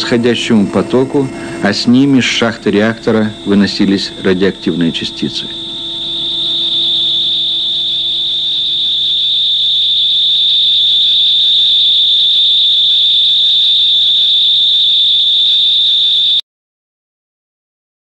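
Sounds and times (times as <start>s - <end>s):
faint low hum: 0.0s - 16.1s
high-pitched whine: 0.0s - 16.4s.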